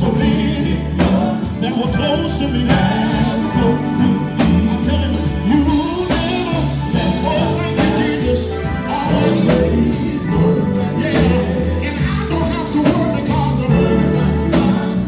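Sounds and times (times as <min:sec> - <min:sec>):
drum kit: 0:00.0 - 0:15.0
keyboard: 0:00.0 - 0:15.0
men's quartet singing gospel: 0:00.0 - 0:15.0.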